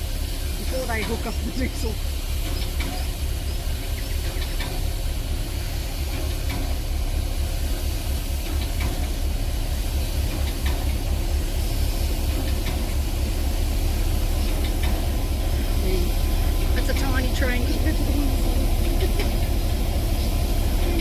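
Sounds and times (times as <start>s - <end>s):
locomotive idling: 0.0s - 21.0s.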